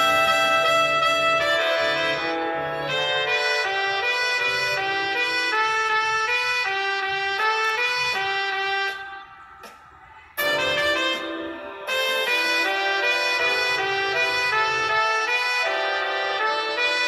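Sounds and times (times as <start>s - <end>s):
sampled brass band music: 0.0s - 9.8s, 10.4s - 17.0s.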